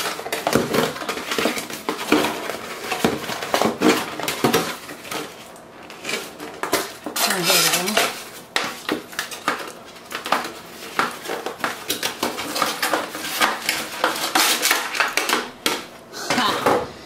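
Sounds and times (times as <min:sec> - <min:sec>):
packaging tray clicks and scrapes: 0:00.0 - 0:15.8.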